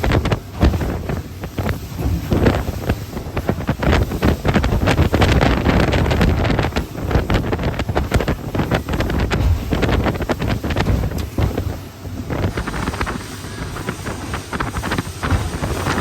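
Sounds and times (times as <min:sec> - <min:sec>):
waves and spray rushing: 0:00.0 - 0:16.0
wind buffeting microphone: 0:00.0 - 0:16.0.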